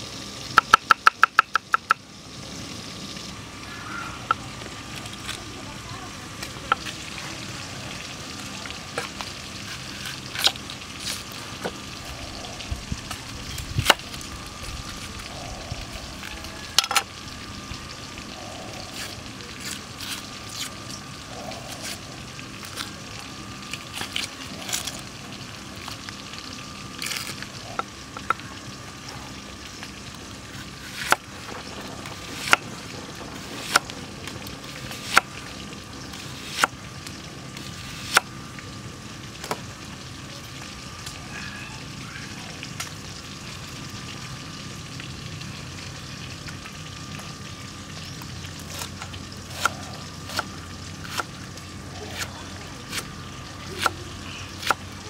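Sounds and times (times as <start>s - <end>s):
crackly hiss: 0.0s - 55.0s.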